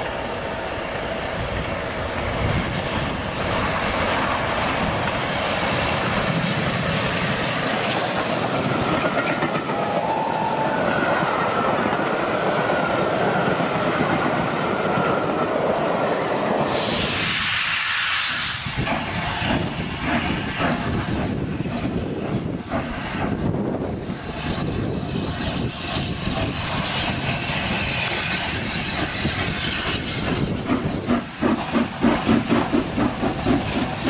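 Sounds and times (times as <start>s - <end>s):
train coaches clattering: 0.0s - 17.4s, 18.2s - 34.0s.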